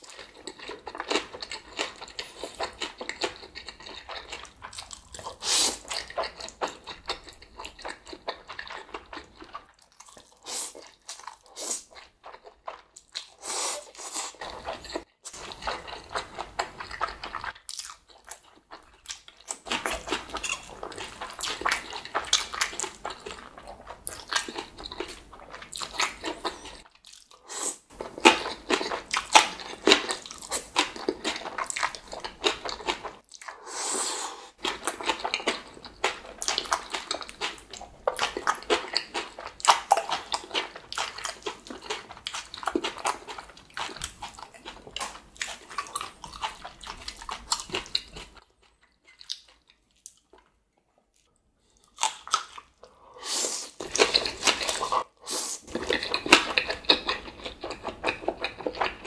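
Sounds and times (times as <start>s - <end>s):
mouth chewing noodles: 0.0s - 59.0s.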